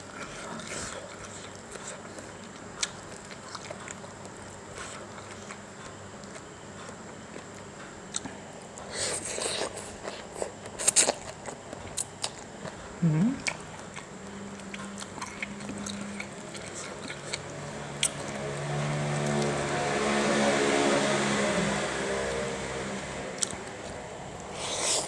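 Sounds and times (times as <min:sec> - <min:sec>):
quiet chewing: 0:00.0 - 0:19.5, 0:23.4 - 0:25.0.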